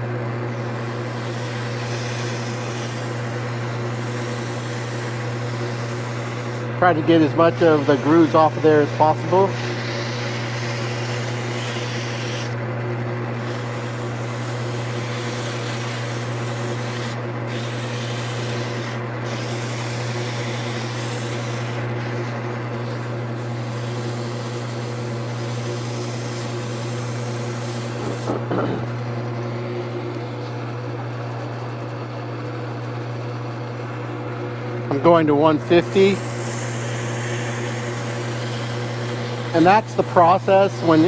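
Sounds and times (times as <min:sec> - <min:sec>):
lathe motor hum: 0:00.0 - 0:41.0
sandpaper rubbing spinning wood: 0:00.5 - 0:12.6, 0:13.4 - 0:28.8, 0:35.0 - 0:41.0.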